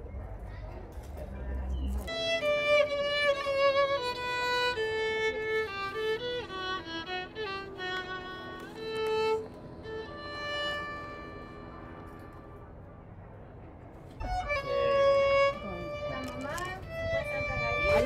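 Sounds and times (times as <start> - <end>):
violin slow melody: 2.0 - 13.2, 14.1 - 18.0.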